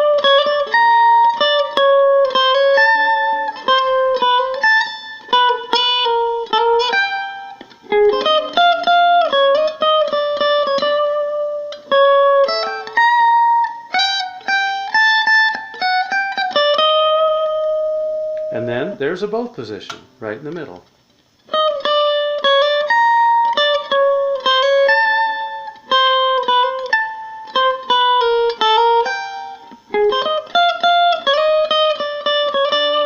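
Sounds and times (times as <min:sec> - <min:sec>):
electric guitar melody: 0:00.0 - 0:33.0.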